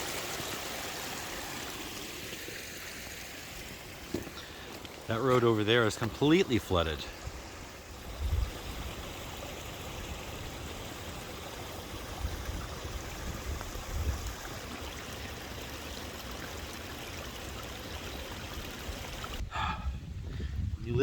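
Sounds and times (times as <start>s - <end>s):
runoff water rushing: 0.0s - 21.0s.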